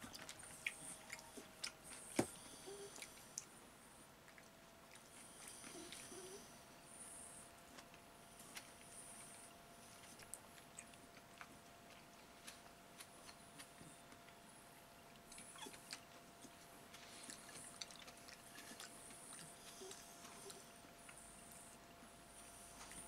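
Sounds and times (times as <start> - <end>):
wet chewing: 0.0 - 3.6, 4.2 - 6.4, 7.8 - 14.4, 15.1 - 21.9.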